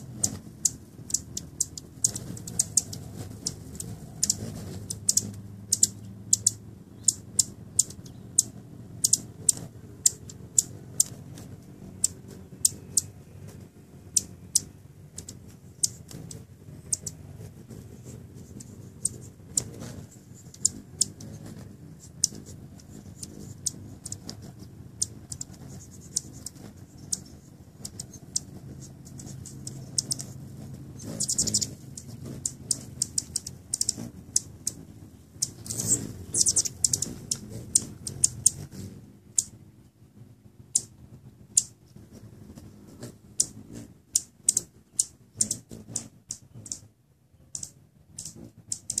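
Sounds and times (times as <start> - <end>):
hummingbird chip calls: 0.0 - 39.9, 40.6 - 49.0.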